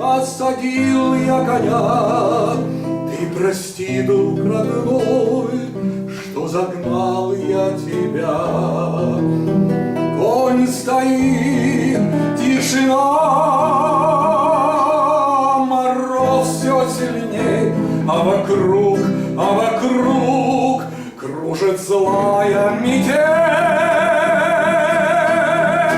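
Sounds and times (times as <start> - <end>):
guitar accompaniment: 0.0 - 25.9
man singing: 0.0 - 25.9.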